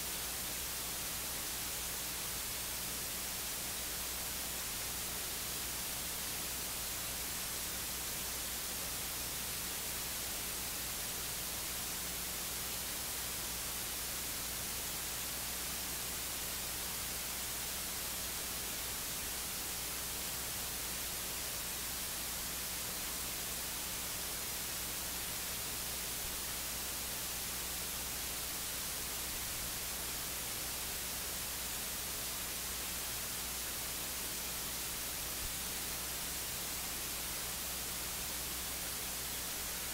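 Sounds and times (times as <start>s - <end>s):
electronic hiss: 0.0s - 39.9s.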